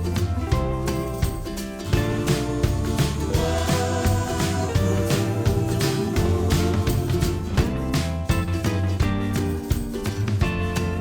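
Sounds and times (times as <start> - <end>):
upbeat guitar music: 0.0 - 11.0.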